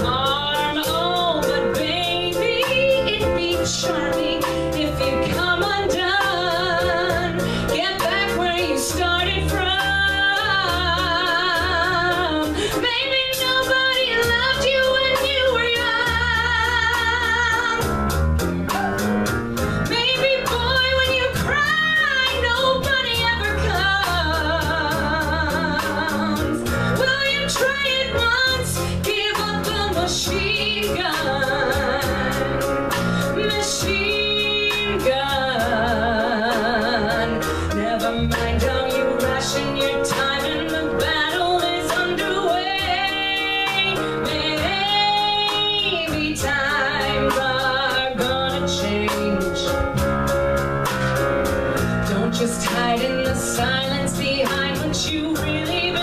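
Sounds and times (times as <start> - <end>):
woman singing with vibrato: 0.0 - 18.0, 19.8 - 49.9, 52.1 - 56.0
bass guitar: 0.0 - 56.0
drums and cymbals: 0.0 - 56.0.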